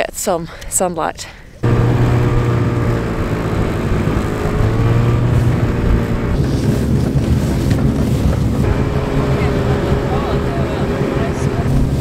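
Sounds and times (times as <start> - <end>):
snowmobile engine running: 1.6 - 12.0
wind buffeting microphone: 1.6 - 12.0.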